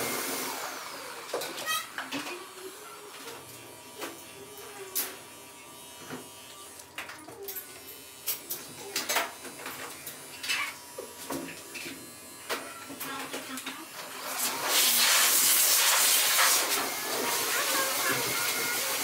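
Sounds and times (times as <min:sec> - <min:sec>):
electric dog clipper running: 0:00.0 - 0:19.0.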